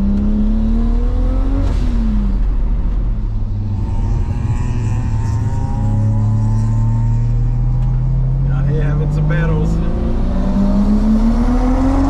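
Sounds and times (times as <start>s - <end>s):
car engine revving in cabin: 0.0s - 12.0s.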